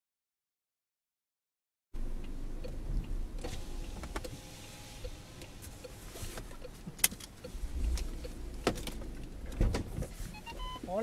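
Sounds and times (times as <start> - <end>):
car engine and road rumble: 2.0 - 11.0.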